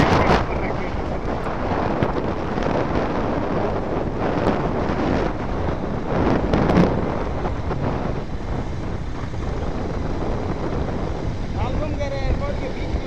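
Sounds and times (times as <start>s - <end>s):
vehicle engine and tyre rumble: 0.0s - 13.0s
wind on microphone: 0.0s - 13.0s.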